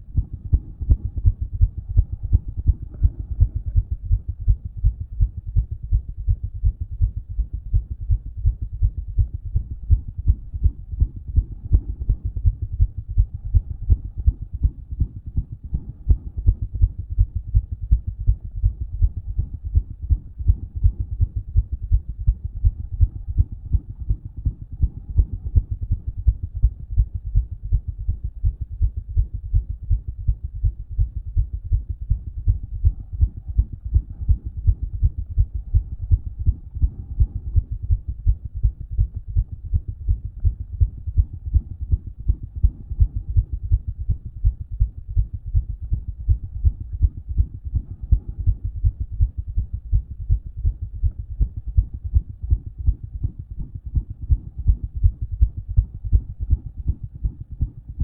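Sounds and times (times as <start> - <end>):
fast heartbeat through stethoscope: 0.0 - 58.0.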